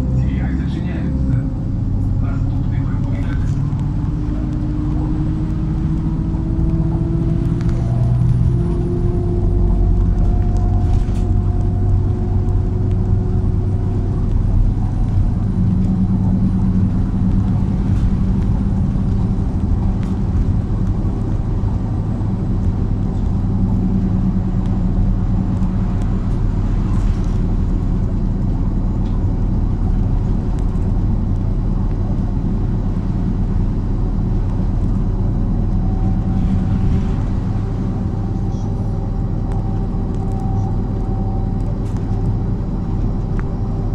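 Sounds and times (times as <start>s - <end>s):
bus engine rumbling inside bus: 0.0s - 43.9s.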